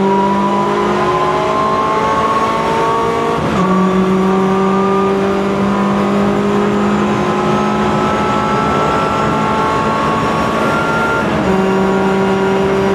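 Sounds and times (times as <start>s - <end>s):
car engine revving: 0.0s - 12.9s
road and tyre noise: 0.0s - 12.9s.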